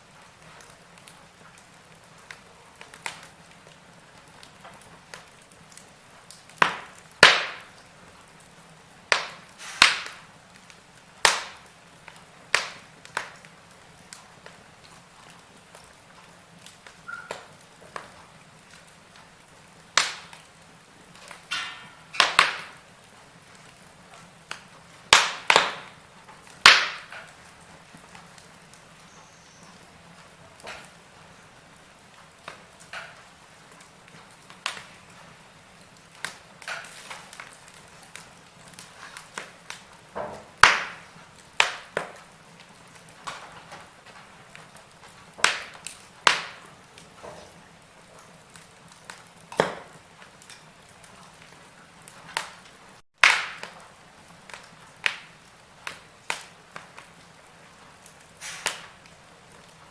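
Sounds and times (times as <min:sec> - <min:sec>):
faint steady hiss: 0:00.0 - 0:59.9
wood fire crackling and popping: 0:00.0 - 0:59.9.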